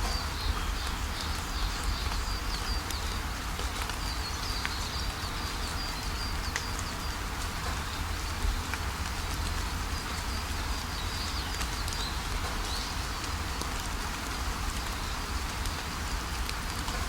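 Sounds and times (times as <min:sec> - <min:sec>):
raindrops ticking: 0:00.0 - 0:17.0
steady rainfall: 0:00.0 - 0:17.0.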